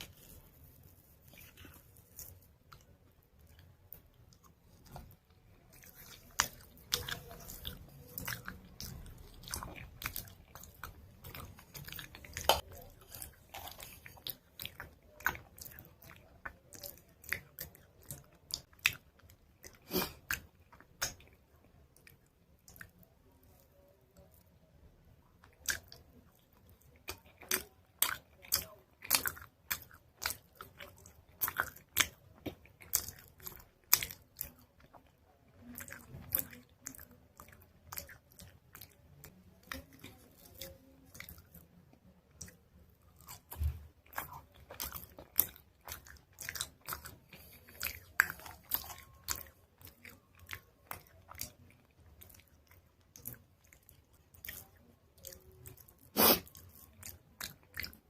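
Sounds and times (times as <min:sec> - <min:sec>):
chewing crunchy chalk paste: 0:00.0 - 0:24.6, 0:25.3 - 0:58.0.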